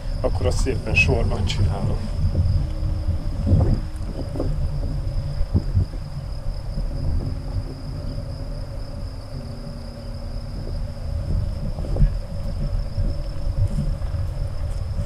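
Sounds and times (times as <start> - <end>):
insects chirring: 0.0 - 15.0
wind rumble on microphone: 0.0 - 15.0.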